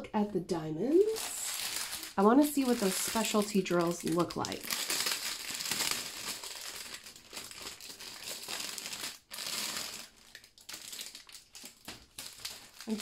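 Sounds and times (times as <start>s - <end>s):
plastic bag crinkling: 1.0s - 13.0s.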